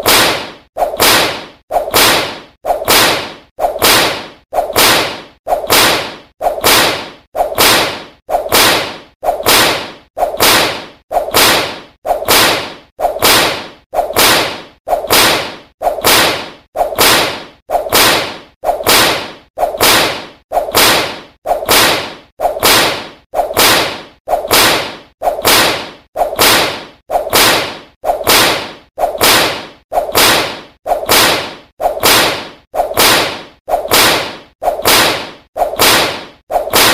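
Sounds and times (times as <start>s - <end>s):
whip cracking: 0.0s - 36.9s.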